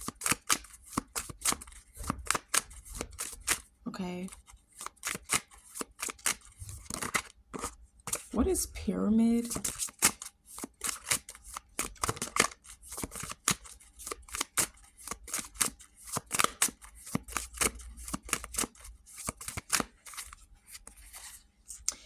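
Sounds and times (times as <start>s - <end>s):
cards being shuffled: 0.0s - 3.7s, 4.3s - 8.6s, 9.4s - 22.0s.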